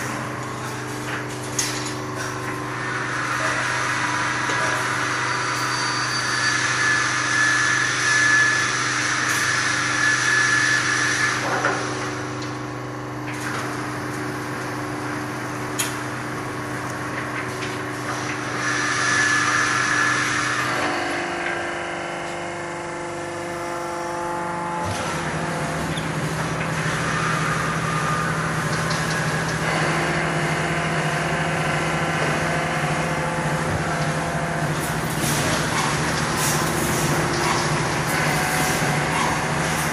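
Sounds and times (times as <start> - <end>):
machine hum: 0.0 - 39.9.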